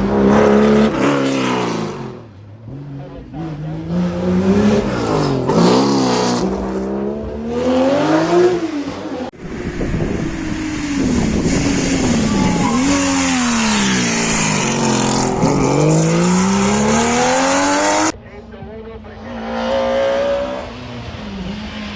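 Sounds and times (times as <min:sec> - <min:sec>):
rally car engines accelerating: 0:00.0 - 0:21.9.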